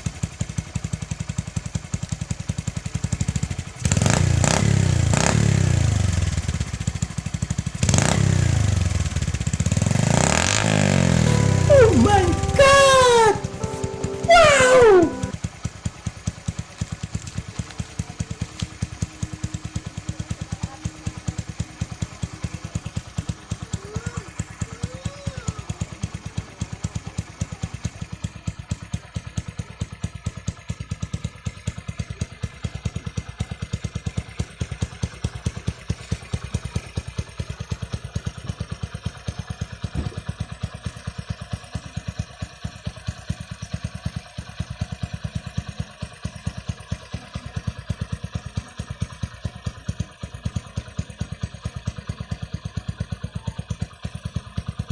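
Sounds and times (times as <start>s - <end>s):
motorcycle engine idling: 0.0s - 15.3s, 16.3s - 54.9s.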